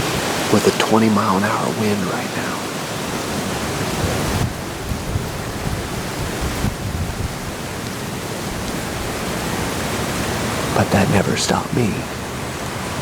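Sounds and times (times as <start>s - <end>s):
wind gusting into microphone: 0.0s - 13.0s.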